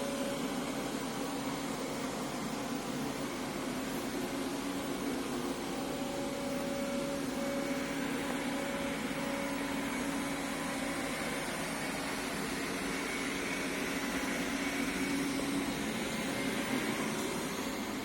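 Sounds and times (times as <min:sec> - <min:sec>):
robotic vacuum cleaner humming: 0:03.3 - 0:18.0.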